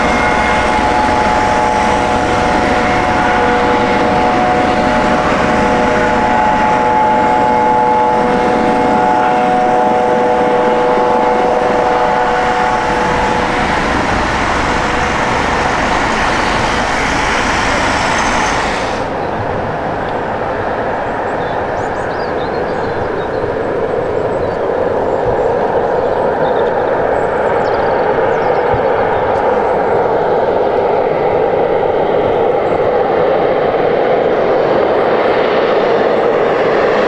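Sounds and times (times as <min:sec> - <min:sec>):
held whining tones: 0:00.0 - 0:35.3
helicopter rotor and turbine noise: 0:00.0 - 0:37.0.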